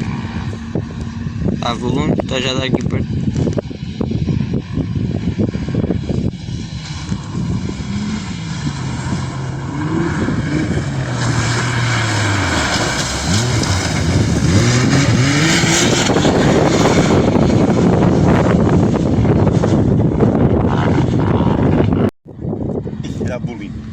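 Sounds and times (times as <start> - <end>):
rally car engine revving: 0.0 - 23.9.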